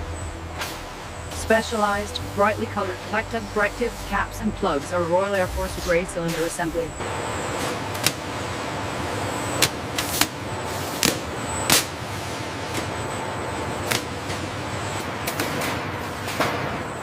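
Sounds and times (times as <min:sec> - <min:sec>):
faint high whine: 0:00.0 - 0:15.2
factory machinery noise: 0:00.0 - 0:17.0.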